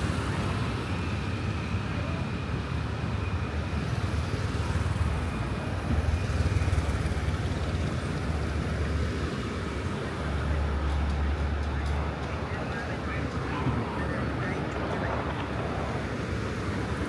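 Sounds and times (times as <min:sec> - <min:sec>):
passing cars and motorbikes: 0:00.0 - 0:17.0.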